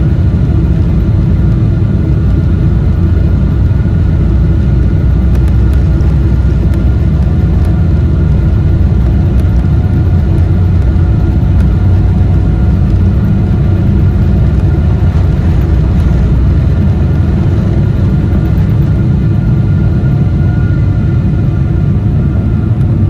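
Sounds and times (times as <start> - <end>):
faint steady tones: 0.0 - 23.0
jet engine rumble in cabin: 0.0 - 23.0.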